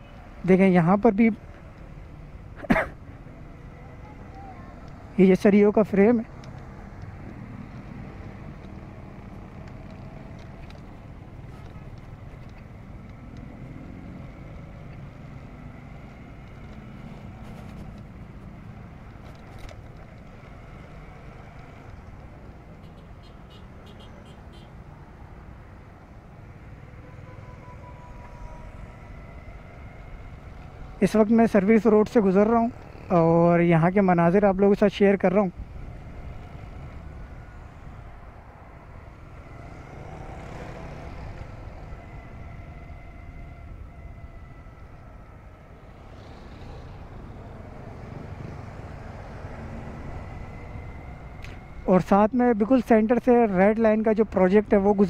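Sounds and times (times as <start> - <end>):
road noise: 0.0 - 55.0
vehicle engine rumble: 0.0 - 55.0.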